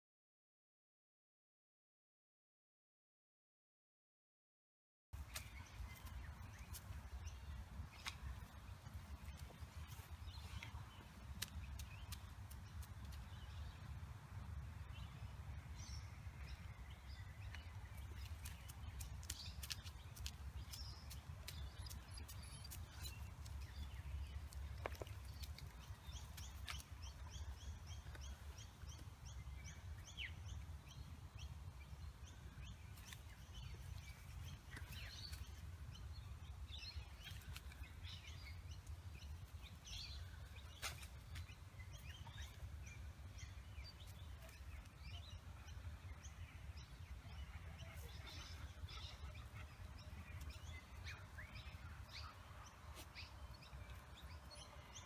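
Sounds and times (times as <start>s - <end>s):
faint birds chirping: 5.2s - 55.0s.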